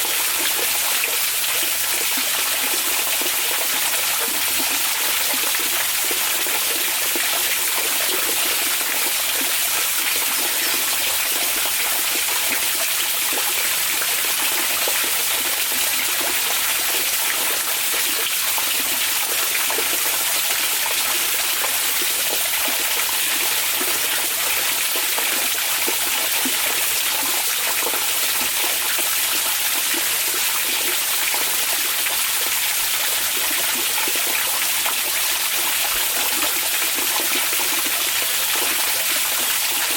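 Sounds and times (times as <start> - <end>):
hot spring water running: 0.0 - 39.9.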